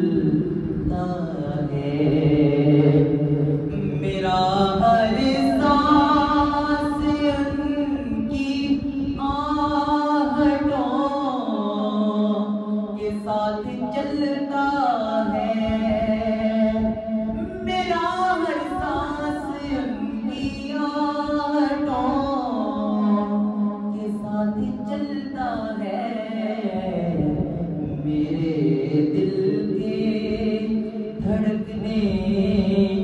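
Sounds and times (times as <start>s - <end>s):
man singing devotional song: 0.0s - 33.0s.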